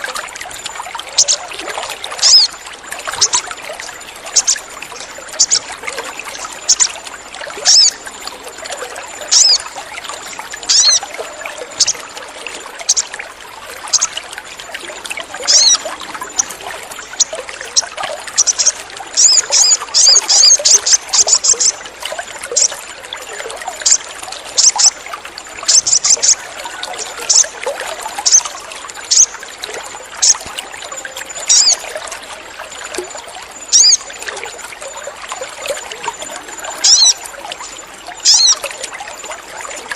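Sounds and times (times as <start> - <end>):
birds chirping: 0.0 - 8.3, 9.0 - 12.2, 12.8 - 13.2, 13.8 - 14.6, 15.3 - 31.9, 32.8 - 34.2, 35.1 - 38.7
trickling water: 0.0 - 39.9.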